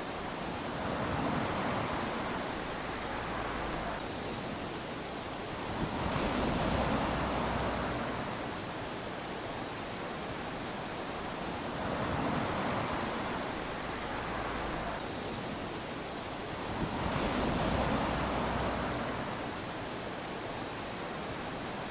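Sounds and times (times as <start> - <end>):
small waves lapping on a beach: 0.0 - 21.9.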